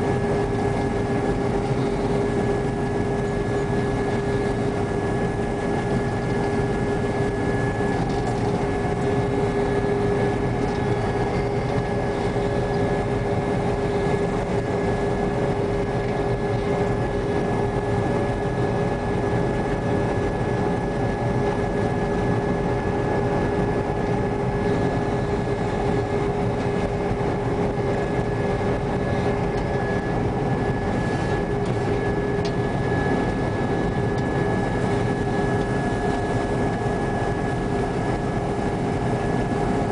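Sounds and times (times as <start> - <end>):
combine harvester engine drone: 0.0 - 39.9
high machinery whine: 0.0 - 39.9.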